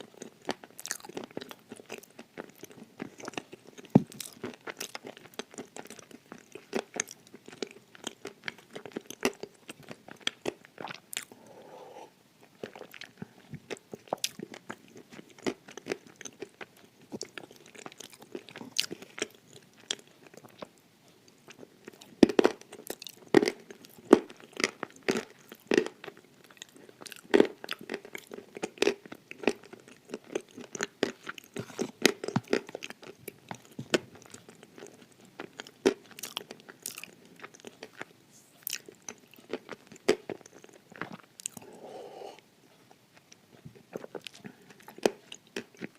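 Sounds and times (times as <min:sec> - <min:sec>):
clay crunching while chewed: 0:00.0 - 0:11.4, 0:12.4 - 0:20.7, 0:21.4 - 0:41.8, 0:42.6 - 0:45.9.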